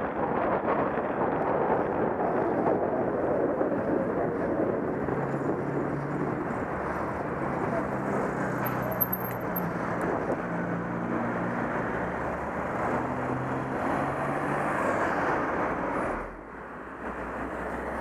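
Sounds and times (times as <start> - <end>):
traffic and road noise: 0.0 - 18.0.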